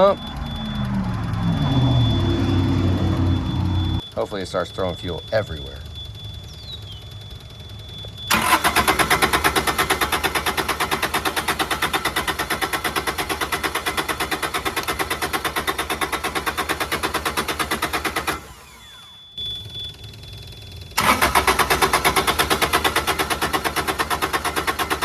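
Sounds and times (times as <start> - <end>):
diesel engine cranking without firing: 0.0 - 25.0.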